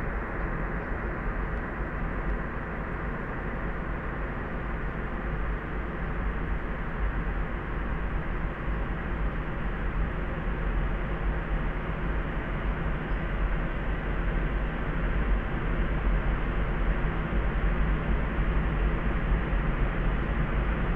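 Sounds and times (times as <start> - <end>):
soft hiss and rumble noise: 0.0 - 20.9.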